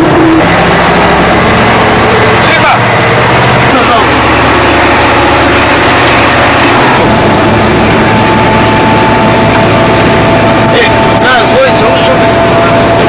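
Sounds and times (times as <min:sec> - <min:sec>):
bus engine running: 0:00.0 - 0:13.0
road noise: 0:00.0 - 0:13.0
steady high whine: 0:00.0 - 0:13.0.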